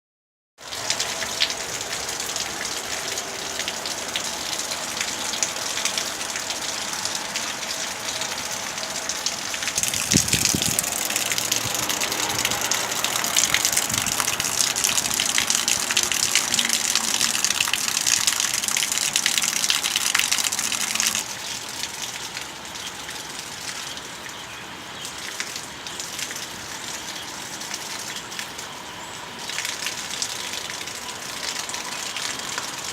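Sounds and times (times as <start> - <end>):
rain falling: 0.6 - 32.9.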